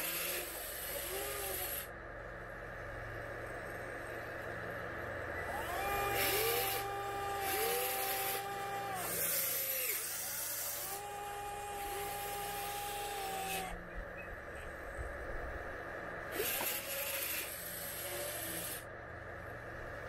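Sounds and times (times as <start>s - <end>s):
electric motors whining: 0.0s - 2.0s, 2.7s - 20.0s.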